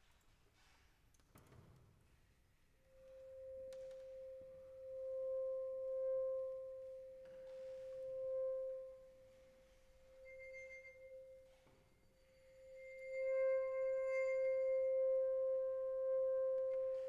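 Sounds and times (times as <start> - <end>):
long-held pure tone: 2.8 - 17.0
faint high bell-like overtones: 2.9 - 17.0.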